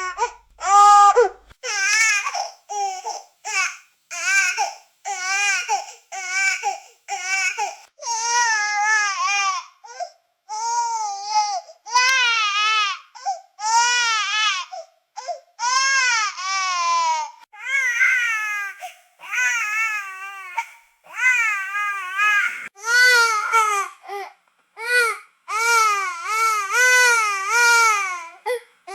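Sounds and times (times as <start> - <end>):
baby crying: 0.0 - 28.9.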